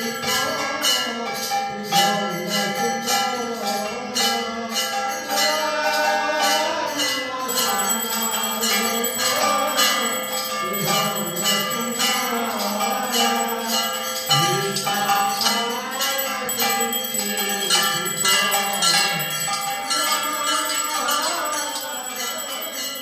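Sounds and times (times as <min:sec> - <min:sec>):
hand bell ringing: 0:00.0 - 0:23.0.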